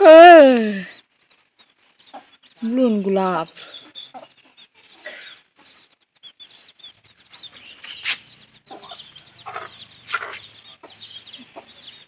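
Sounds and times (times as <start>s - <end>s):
small birds chirping: 0.0s - 12.0s
chickens clucking: 1.0s - 12.0s.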